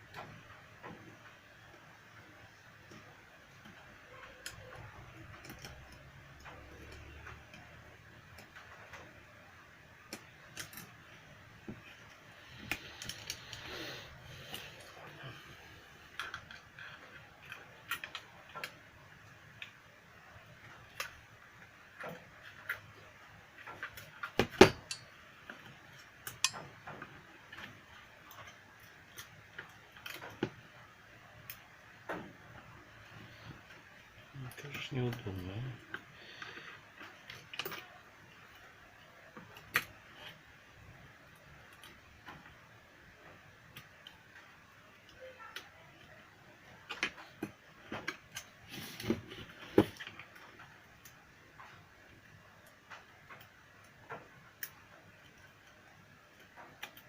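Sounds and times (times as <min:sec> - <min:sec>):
small parts clicking and knocking: 0:00.0 - 0:57.0.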